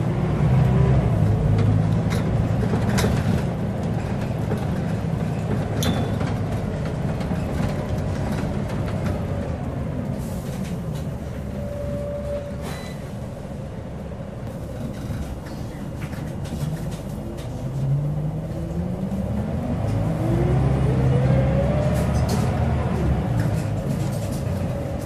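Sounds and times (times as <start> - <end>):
bus engine rumbling and accelerating: 0.0 - 25.0.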